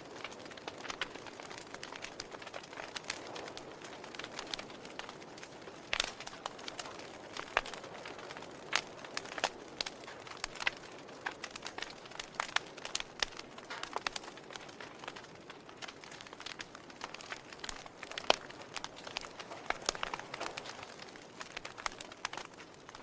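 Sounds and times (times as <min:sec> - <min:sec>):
fire crackling: 0:00.0 - 0:23.0
soft steady hiss: 0:00.0 - 0:23.0.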